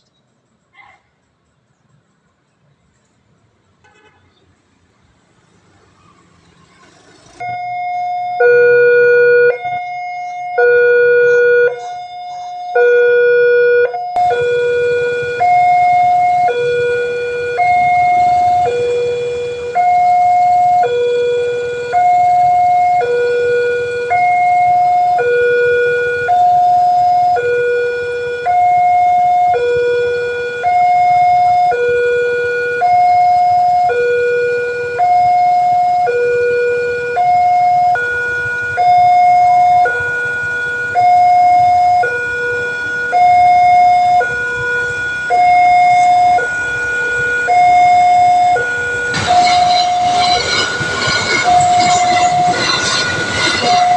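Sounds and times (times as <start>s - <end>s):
two-tone crossing warning alarm: 7.4s - 53.9s.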